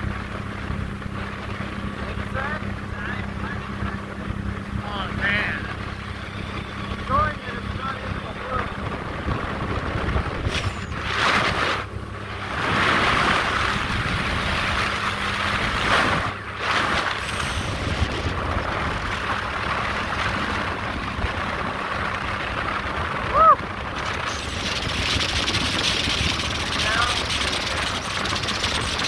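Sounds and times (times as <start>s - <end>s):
motorboat engine humming: 0.0s - 29.0s
water and wind rushing: 0.0s - 29.0s.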